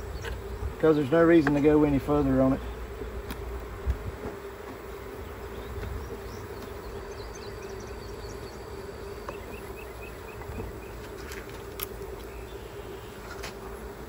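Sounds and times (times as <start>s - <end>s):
bees humming: 0.0s - 14.0s.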